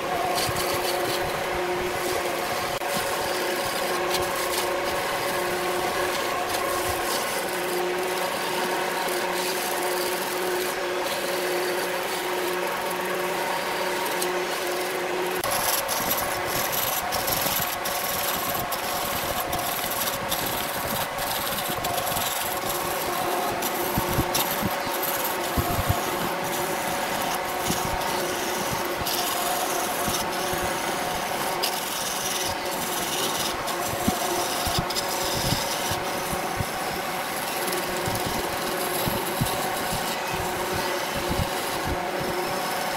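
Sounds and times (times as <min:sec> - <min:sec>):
gouge scraping spinning wood: 0:00.0 - 0:42.9
lathe motor hum: 0:00.0 - 0:42.9.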